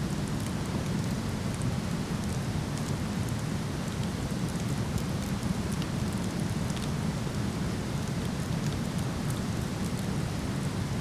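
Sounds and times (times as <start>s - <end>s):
faint wood fire crackles: 0.0s - 11.0s.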